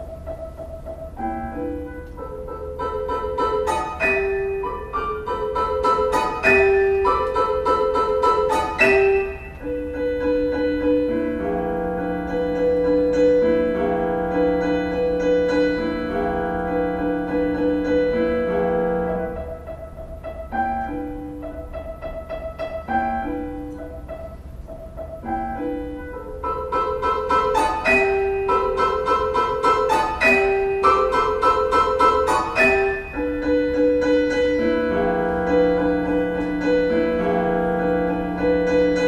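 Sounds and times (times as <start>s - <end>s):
prepared piano playing: 0.0s - 39.0s.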